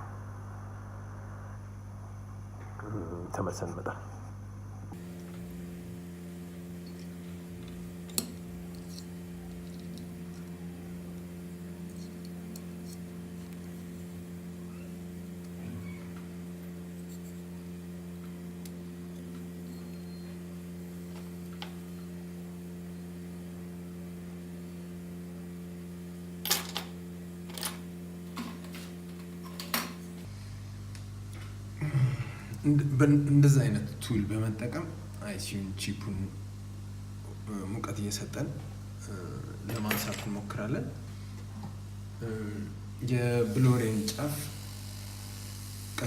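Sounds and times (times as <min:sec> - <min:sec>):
hot air blower humming: 0:04.9 - 0:46.0.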